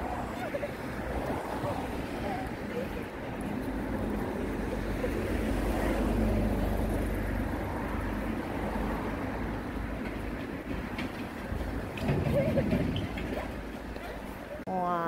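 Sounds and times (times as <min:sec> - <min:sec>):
road traffic rumble: 0:00.0 - 0:14.8.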